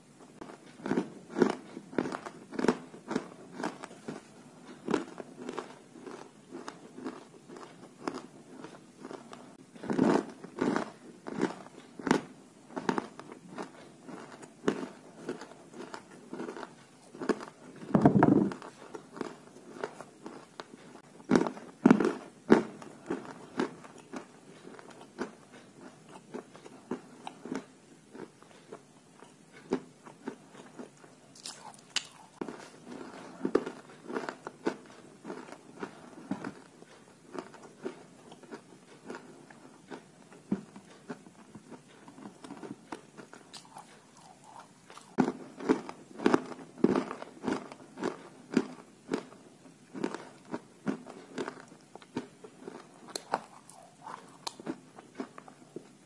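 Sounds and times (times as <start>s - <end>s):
chalk being chewed crunching: 0.4s - 17.9s, 18.5s - 56.0s.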